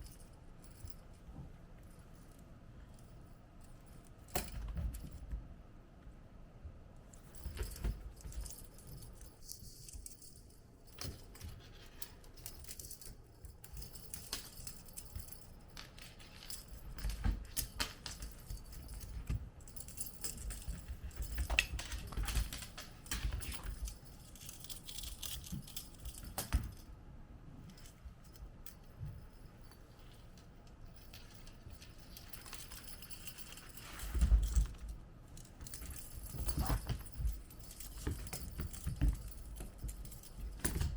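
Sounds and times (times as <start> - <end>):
cat toys jingling and rattling: 7.2 - 26.9, 27.6 - 40.9.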